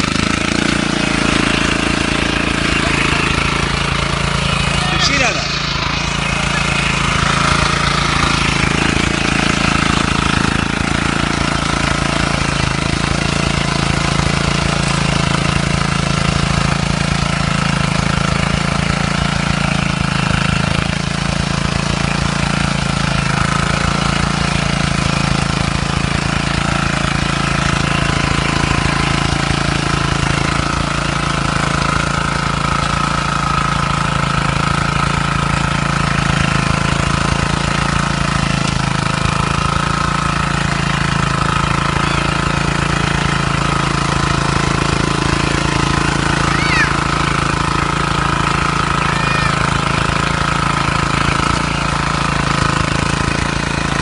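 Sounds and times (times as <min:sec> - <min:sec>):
rotary tiller engine running: 0:00.0 - 0:54.0.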